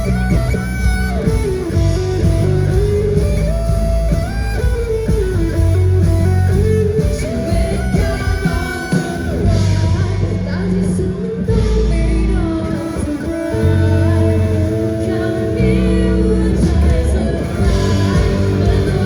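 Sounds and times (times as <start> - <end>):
bass guitar: 0.0 - 19.0
lead guitar with sliding notes: 0.0 - 19.0.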